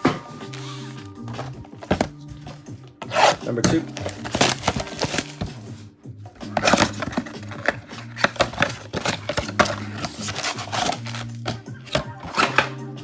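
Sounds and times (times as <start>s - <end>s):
card packs ripping and crinkling: 0.0s - 5.8s, 6.4s - 12.8s
background music: 0.0s - 13.0s.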